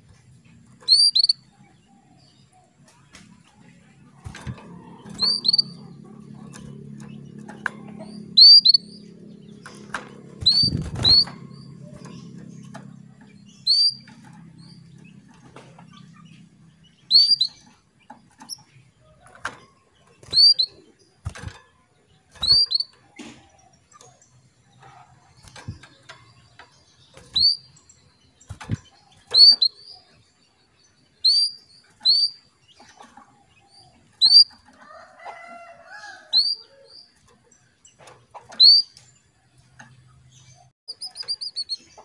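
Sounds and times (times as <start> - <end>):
canary chirping: 0.1 - 2.6, 3.5 - 42.0.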